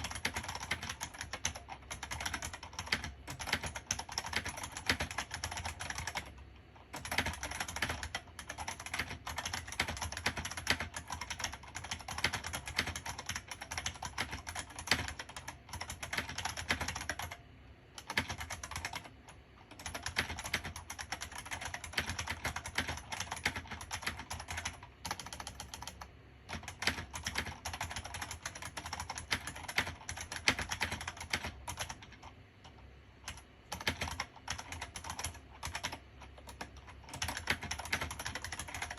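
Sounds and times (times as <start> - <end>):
fast keyboard key clicks: 0.0 - 17.4, 18.0 - 38.9.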